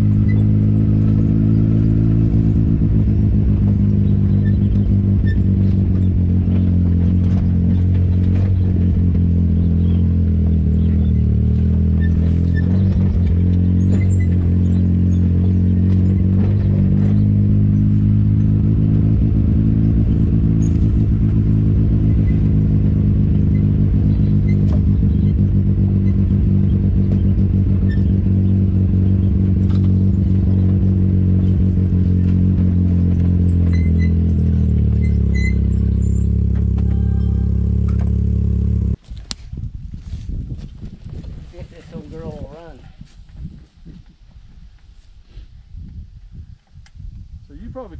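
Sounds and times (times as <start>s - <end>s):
vehicle knocks and rattles: 0.0s - 39.0s
utility vehicle engine running: 0.0s - 39.1s.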